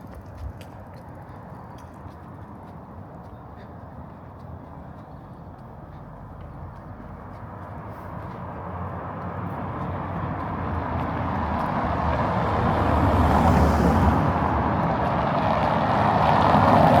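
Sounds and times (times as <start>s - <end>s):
motor vehicle rumbling: 0.0s - 17.0s.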